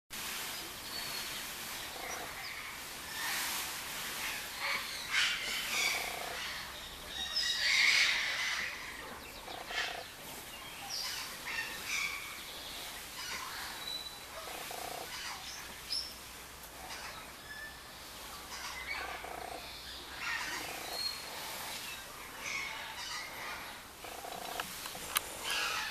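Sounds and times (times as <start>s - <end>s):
peafowl calling: 1.5s - 25.9s.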